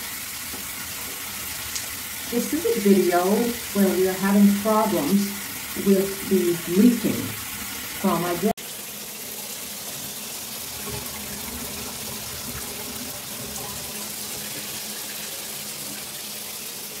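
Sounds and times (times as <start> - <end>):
shower head spraying water: 0.0 - 17.0.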